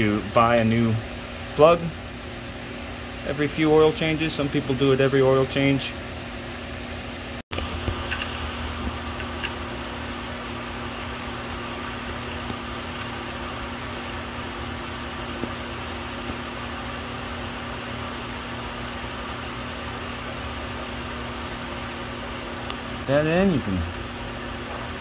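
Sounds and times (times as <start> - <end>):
fan humming with hiss: 0.0 - 25.0.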